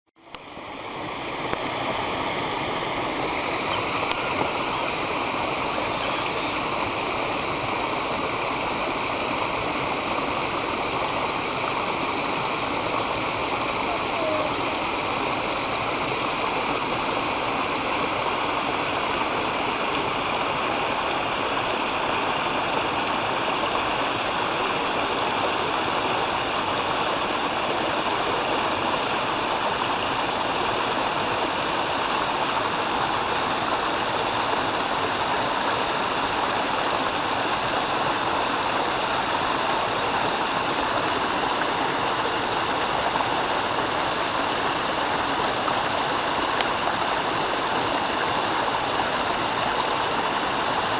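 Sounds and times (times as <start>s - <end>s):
running water rushing: 0.2s - 50.9s.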